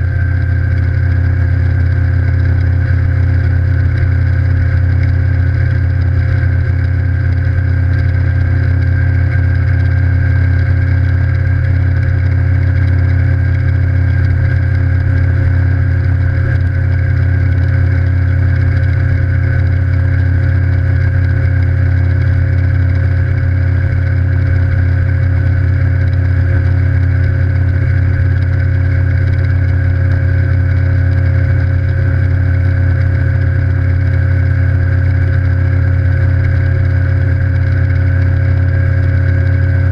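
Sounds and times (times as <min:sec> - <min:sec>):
outboard motor running steadily: 0:00.0 - 0:39.9.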